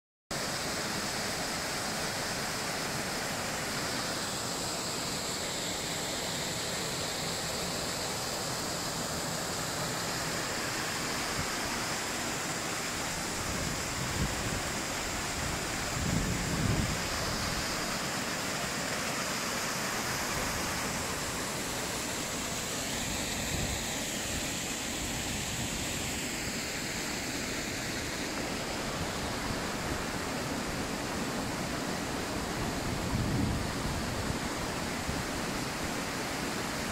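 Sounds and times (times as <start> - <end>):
waterfall rushing: 0.4 - 36.9.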